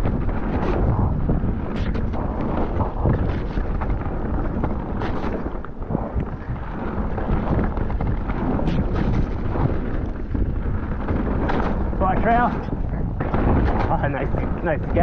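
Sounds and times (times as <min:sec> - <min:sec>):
bike knocks and rattles: 0:00.0 - 0:15.0
tyre noise on dirt: 0:00.0 - 0:15.0
wind buffeting microphone: 0:00.0 - 0:15.0.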